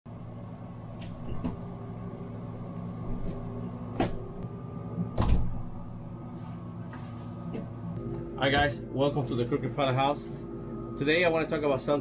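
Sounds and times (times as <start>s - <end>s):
machine hum: 0.1s - 12.0s.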